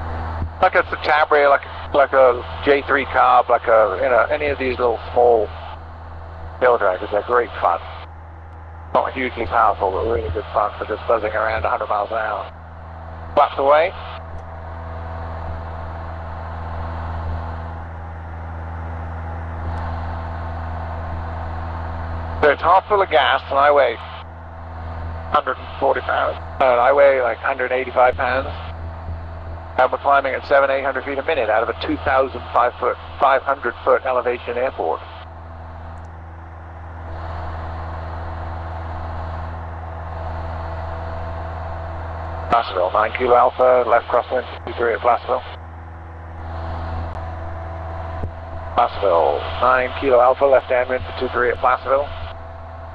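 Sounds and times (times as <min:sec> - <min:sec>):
light aircraft engine and propeller: 0:00.0 - 0:52.9.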